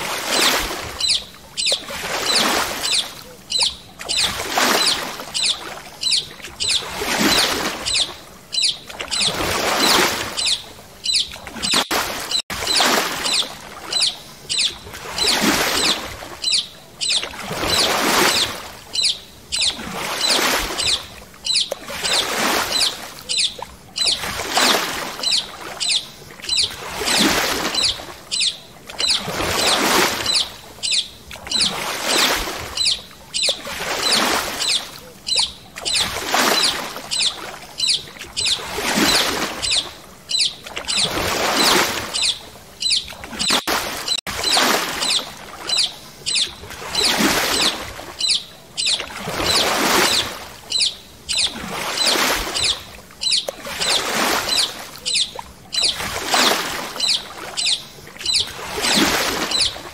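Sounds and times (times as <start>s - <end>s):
paddle splashing through water: 0.0s - 59.9s.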